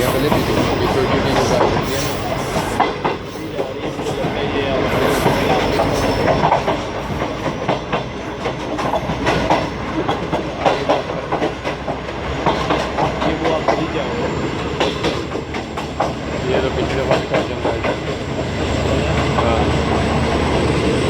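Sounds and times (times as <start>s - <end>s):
train rumble: 0.0s - 21.0s
train wheels clattering on rails: 0.0s - 21.0s.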